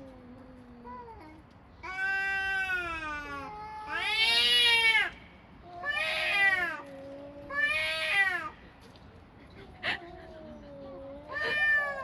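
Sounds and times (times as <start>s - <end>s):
cats meowing: 0.7s - 8.6s, 9.8s - 12.0s.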